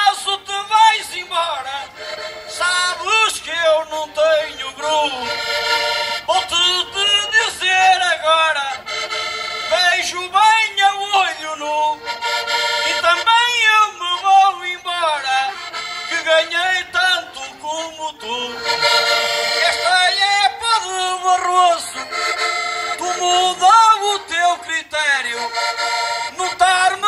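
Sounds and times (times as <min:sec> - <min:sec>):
accordion playing: 0:00.0 - 0:27.0.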